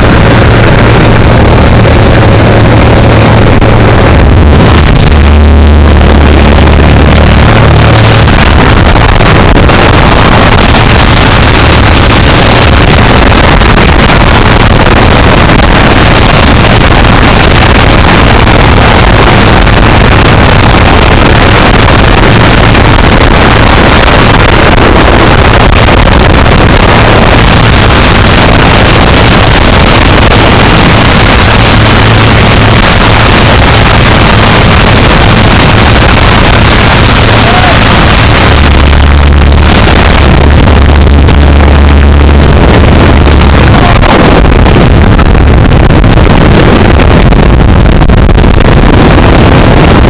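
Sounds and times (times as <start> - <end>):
propeller plane engine droning: 0.0 - 50.0
rushing air noise: 0.0 - 50.0.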